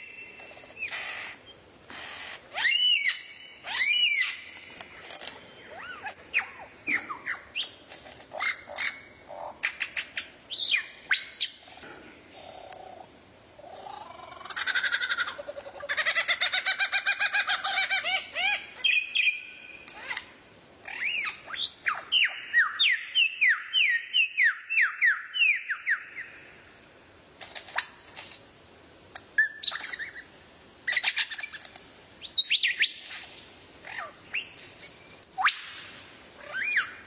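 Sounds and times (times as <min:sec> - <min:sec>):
songbird singing: 0:00.0 - 0:01.7, 0:02.5 - 0:26.8, 0:27.6 - 0:28.6, 0:29.2 - 0:37.0.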